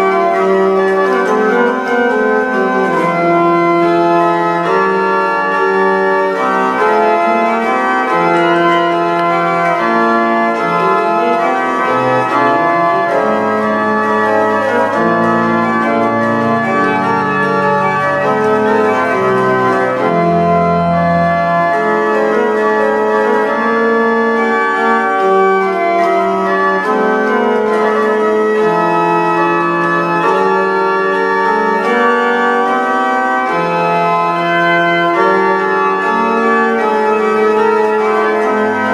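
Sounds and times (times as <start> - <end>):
organ chords: 0.0 - 38.9.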